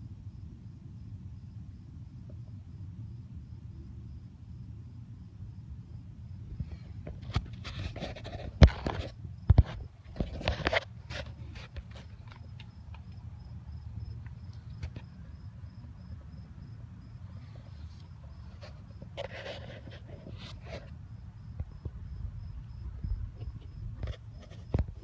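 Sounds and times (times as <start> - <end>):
low steady rumble: 0.0 - 25.0
high insect chirping: 0.1 - 7.6, 10.8 - 19.4, 20.0 - 25.0.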